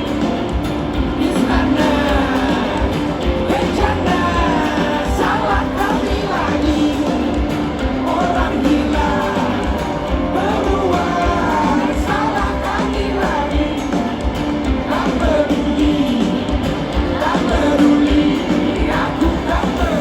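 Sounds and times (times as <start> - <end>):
lead vocal singing: 0.0 - 20.0
live rock-pop band playing: 0.0 - 20.0.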